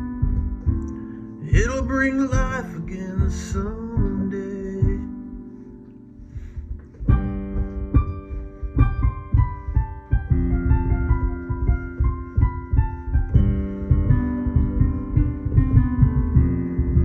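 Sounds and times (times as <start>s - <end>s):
piano playing chords and melody: 0.0s - 17.0s.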